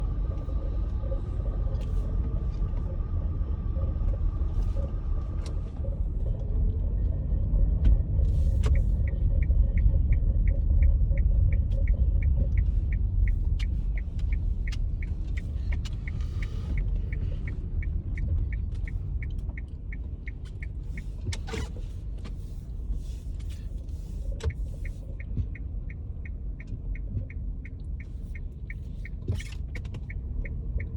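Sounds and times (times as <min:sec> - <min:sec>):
vehicle rumble: 0:00.0 - 0:30.9.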